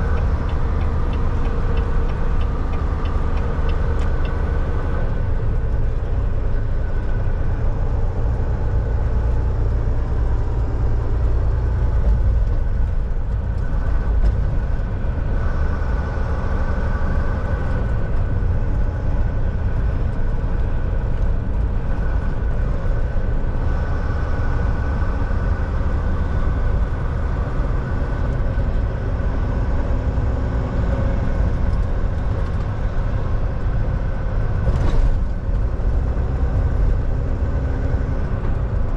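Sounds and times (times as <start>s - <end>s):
truck engine and road rumble: 0.0s - 38.9s.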